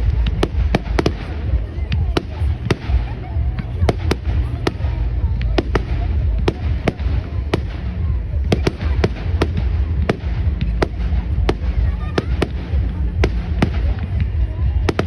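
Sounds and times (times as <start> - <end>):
fireworks bangs and cracks: 0.0 - 15.0
low rumble: 0.0 - 15.0.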